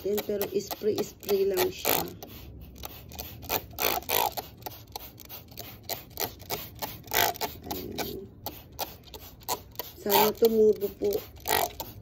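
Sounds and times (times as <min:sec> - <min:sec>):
spray bottle squirting water: 0:00.0 - 0:12.0.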